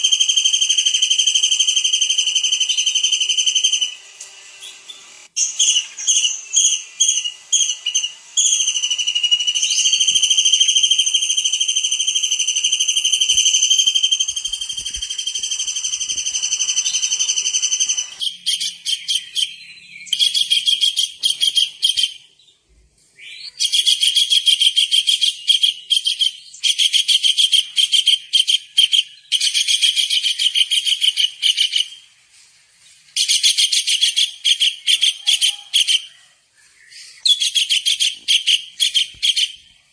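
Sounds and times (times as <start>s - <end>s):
piercing bird whistle: 0.0s - 4.0s, 4.6s - 22.3s, 23.2s - 32.1s, 33.2s - 39.8s.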